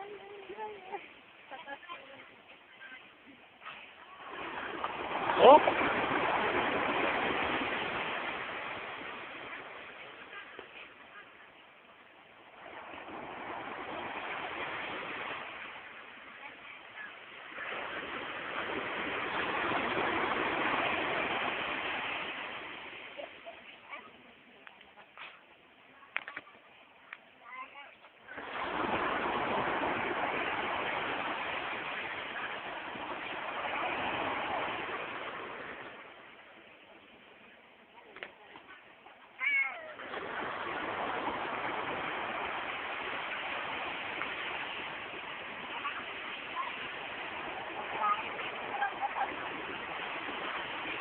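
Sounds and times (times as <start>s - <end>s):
ocean wave breaking: 0.0s - 24.3s, 28.2s - 51.0s.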